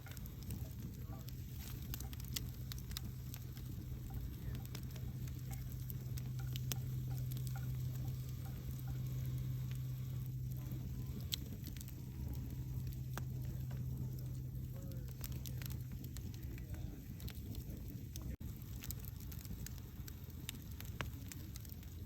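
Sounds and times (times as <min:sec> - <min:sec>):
campfire crackling pops: 0:00.0 - 0:22.0
low steady hum: 0:00.0 - 0:22.0.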